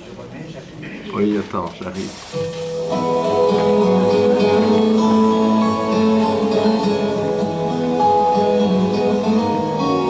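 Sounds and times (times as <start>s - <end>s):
acoustic guitar music over loudspeakers: 1.2s - 10.0s.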